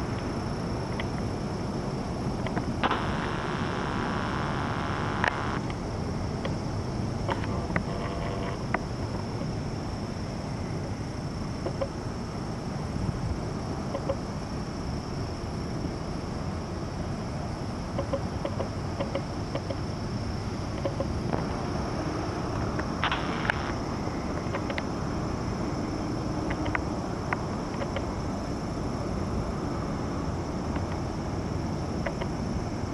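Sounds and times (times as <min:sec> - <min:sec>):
high insect drone: 0:00.0 - 0:32.9.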